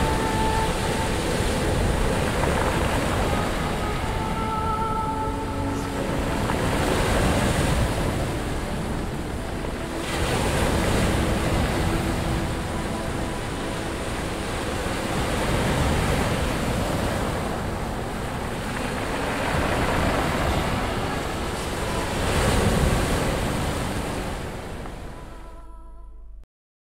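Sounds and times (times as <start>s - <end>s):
surf washing up pebble beach: 0.0s - 25.0s
wind buffeting microphone: 0.0s - 25.6s.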